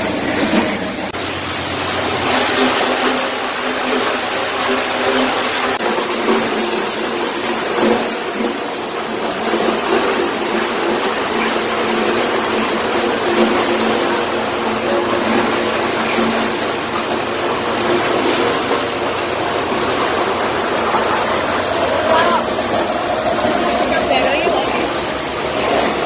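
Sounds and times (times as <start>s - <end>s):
maize sheller rushing noise: 0.0s - 26.0s.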